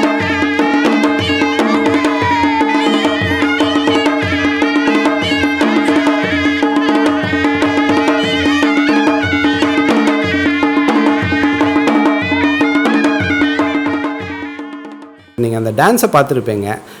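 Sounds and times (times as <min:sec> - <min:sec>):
busy melody: 0:00.0 - 0:15.8
drum beat: 0:00.0 - 0:16.1.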